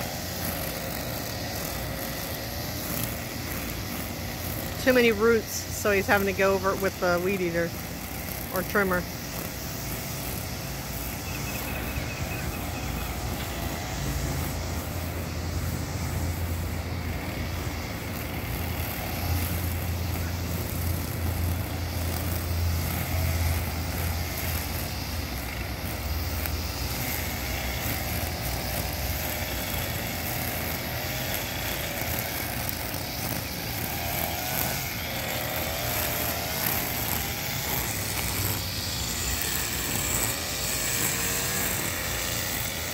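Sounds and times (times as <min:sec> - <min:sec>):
string trimmer cutting grass: 0:00.0 - 0:42.9.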